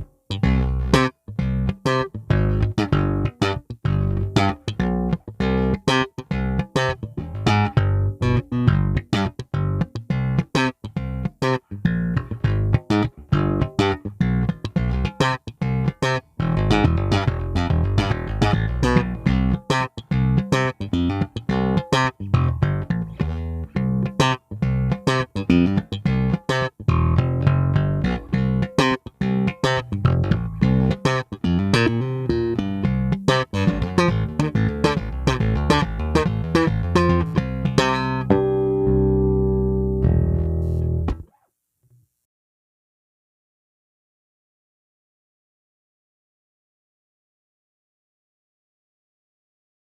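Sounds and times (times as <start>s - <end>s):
electric bass guitar playing: 0.0s - 41.4s.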